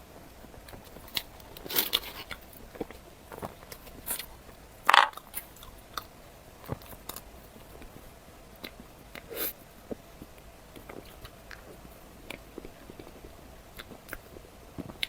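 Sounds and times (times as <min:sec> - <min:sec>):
crunchy chewing: 0:00.4 - 0:15.0.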